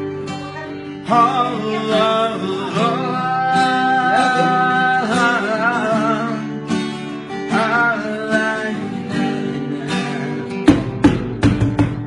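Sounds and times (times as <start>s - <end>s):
person singing: 0.0s - 10.9s
strummed acoustic guitar: 0.0s - 12.0s.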